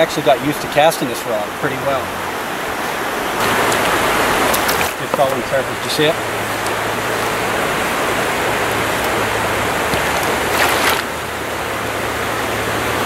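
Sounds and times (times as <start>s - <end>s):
rocky stream flowing: 0.0s - 13.0s.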